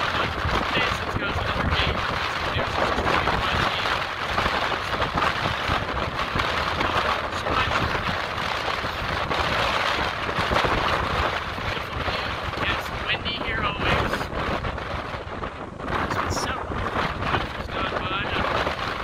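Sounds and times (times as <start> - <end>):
surf breaking against rocks: 0.0 - 19.0
wind buffeting microphone: 0.0 - 19.0.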